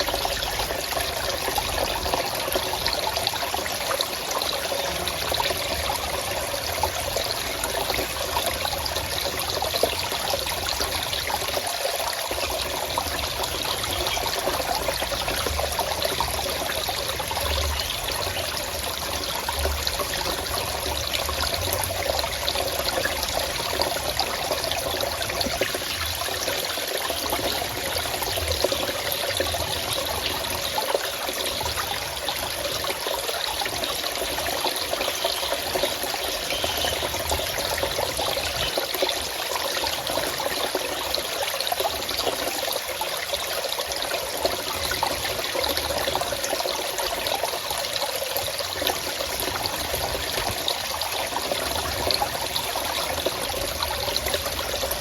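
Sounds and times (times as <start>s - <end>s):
water flowing and trickling: 0.0s - 55.0s.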